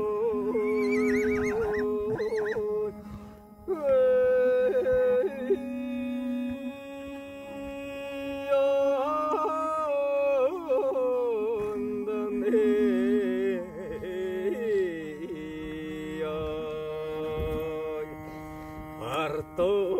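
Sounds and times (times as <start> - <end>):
man singing high notes: 0.0 - 18.4.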